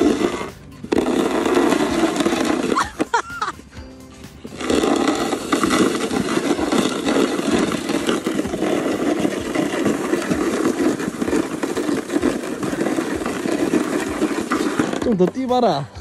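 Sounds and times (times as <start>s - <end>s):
sled scraping across packed snow: 0.0s - 16.0s.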